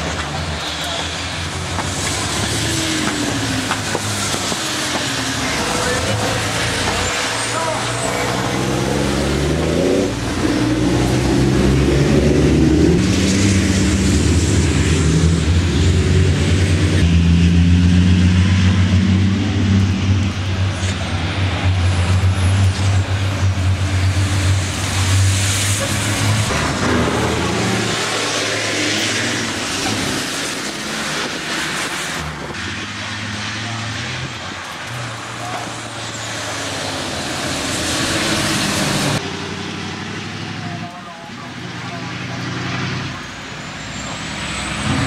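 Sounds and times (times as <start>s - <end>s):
racing truck diesel engines: 0.0s - 45.0s.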